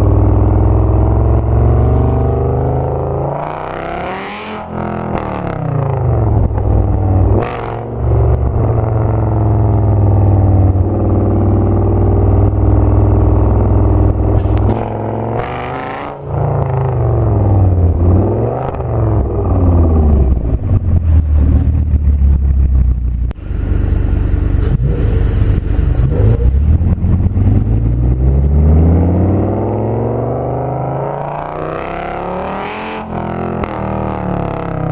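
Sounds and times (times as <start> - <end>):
loud car engine accelerating: 0.0 - 34.9.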